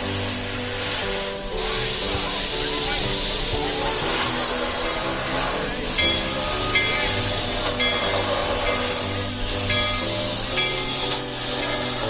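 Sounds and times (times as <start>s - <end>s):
loud steady hiss: 0.0s - 12.0s
music playing: 0.0s - 12.0s.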